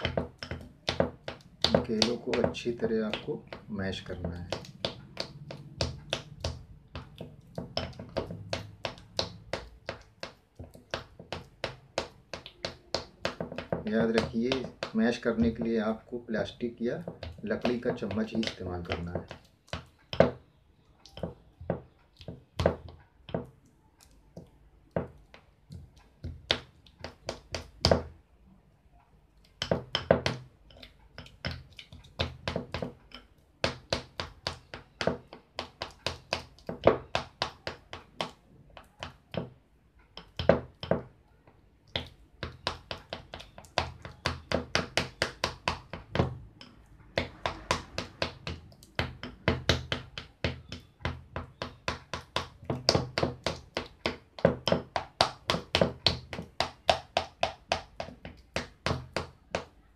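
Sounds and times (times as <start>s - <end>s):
spoon mashing bananas in bowl: 0.0s - 28.3s, 29.3s - 59.9s.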